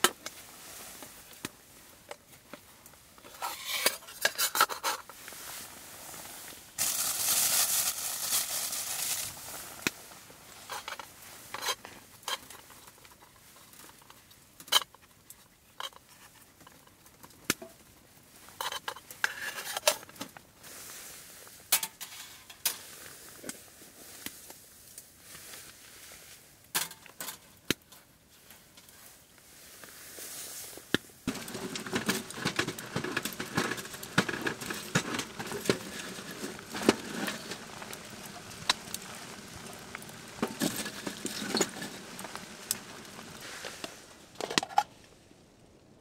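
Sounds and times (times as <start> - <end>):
frying hiss with pops: 0.0 - 46.0.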